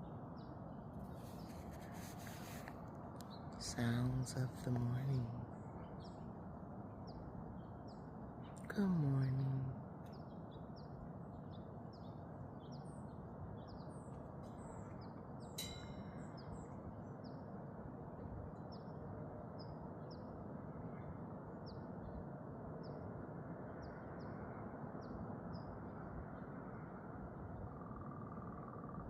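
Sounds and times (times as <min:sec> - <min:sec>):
small birds chirping: 0:00.0 - 0:29.0
low background hiss: 0:01.7 - 0:29.0.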